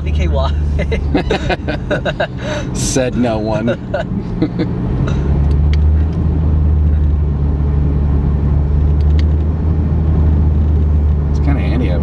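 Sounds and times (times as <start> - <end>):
car engine drone from inside cabin: 0.0 - 12.0.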